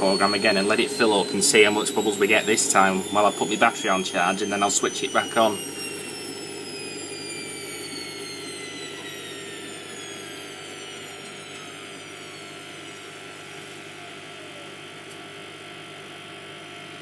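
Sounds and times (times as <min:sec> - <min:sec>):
washing machine motor hum: 0:00.0 - 0:17.0
washing machine whine: 0:00.0 - 0:17.0.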